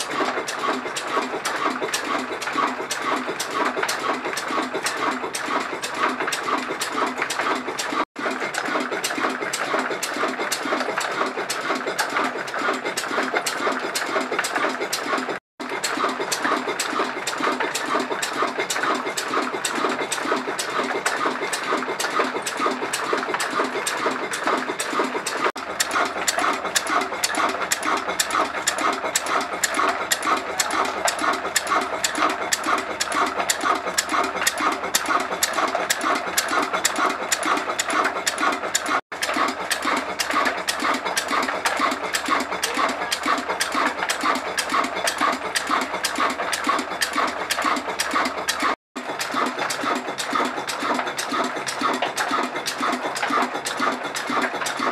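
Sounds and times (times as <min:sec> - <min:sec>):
diesel engine knocking: 0:00.0 - 0:54.9.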